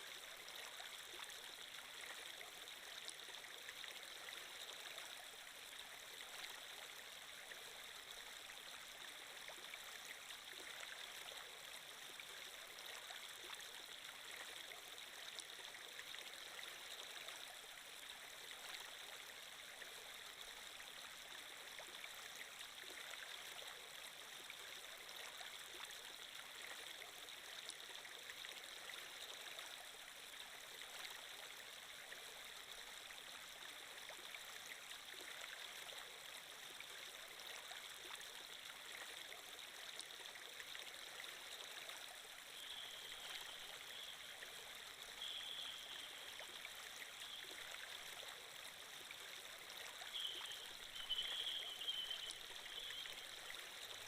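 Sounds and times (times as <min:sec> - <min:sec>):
flowing water: 0:00.0 - 0:54.0.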